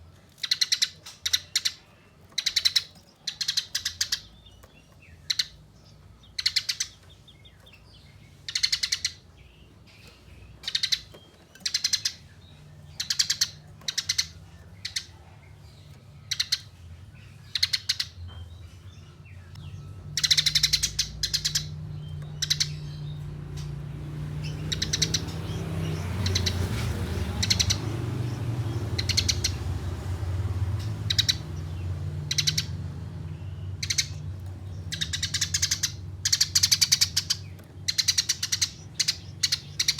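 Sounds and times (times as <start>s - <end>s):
sparrows chattering chirps: 0.0s - 39.9s.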